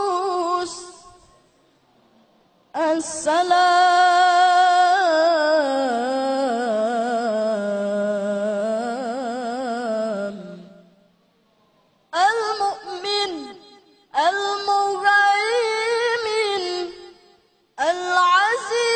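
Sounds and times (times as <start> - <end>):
boy reciting melodically: 0.0 - 1.5, 2.8 - 10.8, 12.1 - 18.9.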